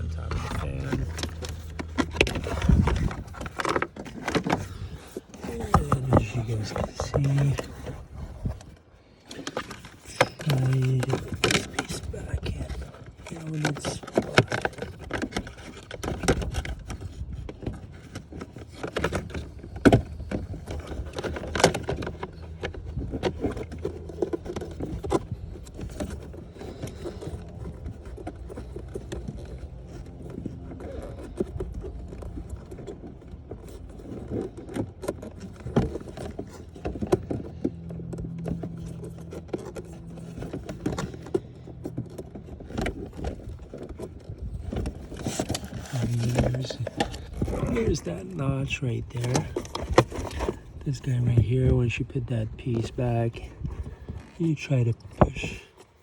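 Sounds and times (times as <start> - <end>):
plastic trim clicking and rattling: 0.0 - 50.8
low hum: 0.0 - 56.0.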